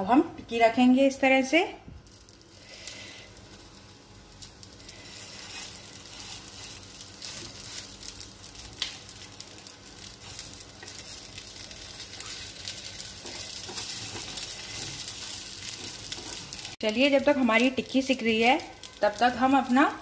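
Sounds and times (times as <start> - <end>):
patties sizzling in oil: 0.0 - 20.0
oil crackling and popping: 1.9 - 20.0.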